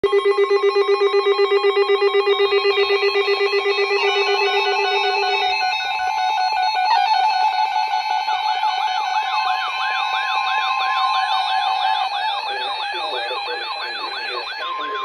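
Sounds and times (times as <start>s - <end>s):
warbling siren-like alarm: 0.0s - 15.0s
low fast-pulsing beep: 0.1s - 15.0s
rapid electronic alert beeps: 0.1s - 15.0s.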